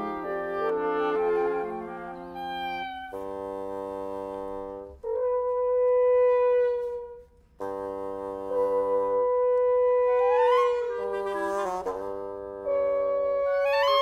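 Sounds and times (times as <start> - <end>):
woodwind quintet sustained notes: 0.0 - 14.0.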